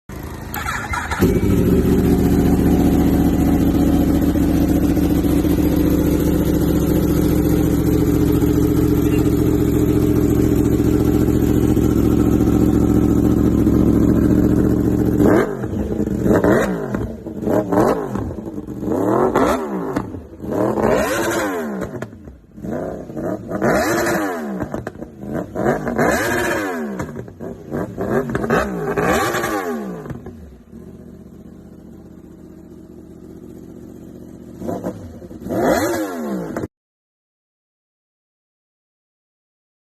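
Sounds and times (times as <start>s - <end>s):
motorcycle engine revving: 0.1s - 36.7s.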